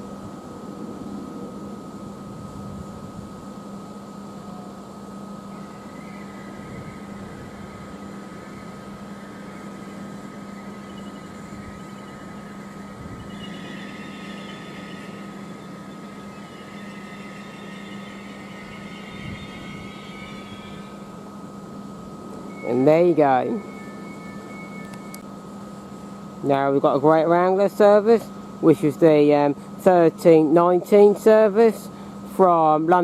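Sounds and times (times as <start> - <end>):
electrical hum with high tone: 0.0 - 33.0
train whine and hiss: 0.0 - 33.0.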